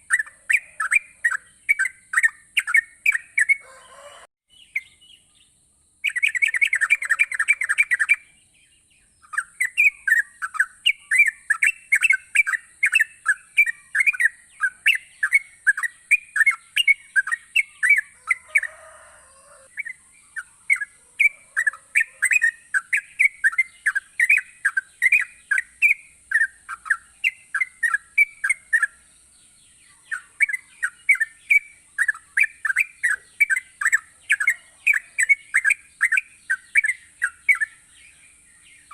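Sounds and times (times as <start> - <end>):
bird chattering and chirping: 0.0 - 38.9.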